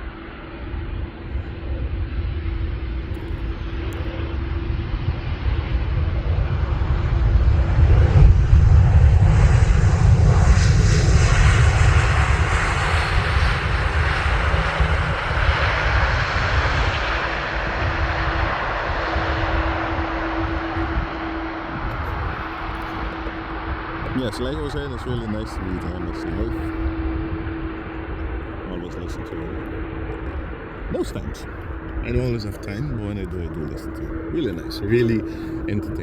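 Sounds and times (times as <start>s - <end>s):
jet engines passing: 0.0s - 36.0s.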